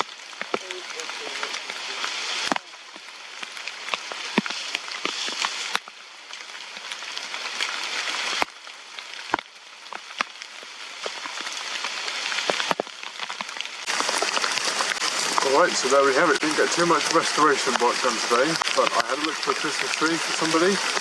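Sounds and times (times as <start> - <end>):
rain falling: 0.0 - 21.0
raindrops tapping close: 0.0 - 21.0.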